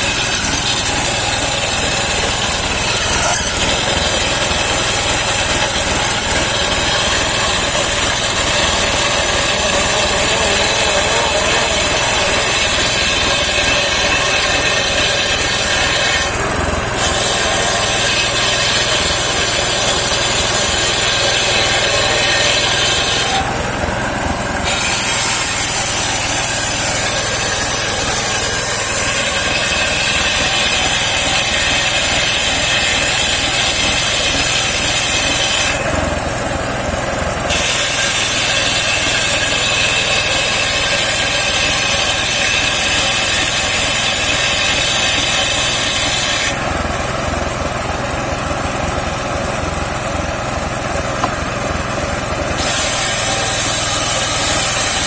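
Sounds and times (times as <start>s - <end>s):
circular sawmill running: 0.0s - 55.0s
high sawing whine: 0.0s - 55.0s.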